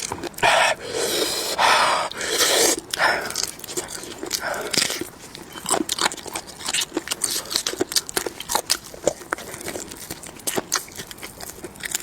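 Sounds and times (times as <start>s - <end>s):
person chewing food: 0.0s - 12.0s
wet mouth noises: 0.0s - 12.0s.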